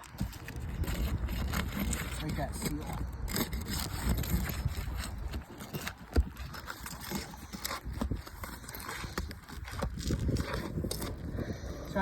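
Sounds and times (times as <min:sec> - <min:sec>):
shingle scraping and crackling: 0:00.0 - 0:12.0.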